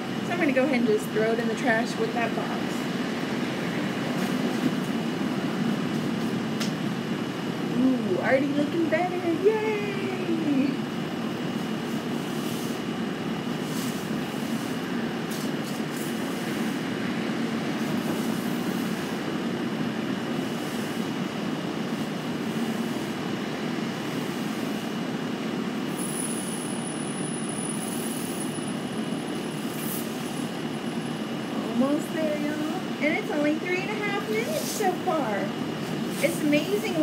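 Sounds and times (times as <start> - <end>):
machine hum with high whine: 0.0 - 37.0.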